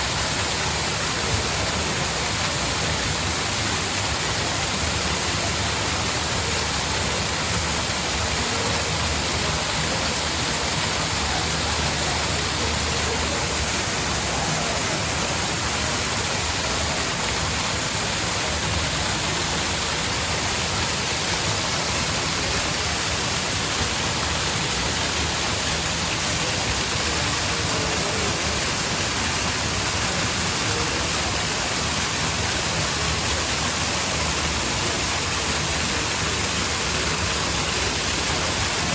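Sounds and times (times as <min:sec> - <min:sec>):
water falling: 0:00.0 - 0:38.9.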